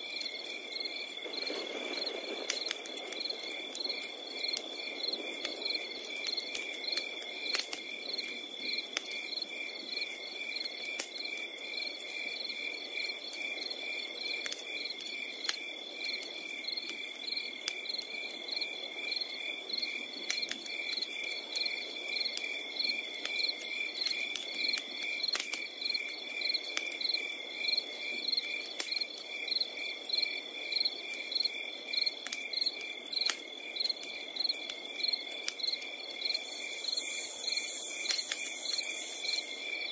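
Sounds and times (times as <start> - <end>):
campfire crackling: 0.0 - 39.9
crickets chirping: 0.0 - 39.9.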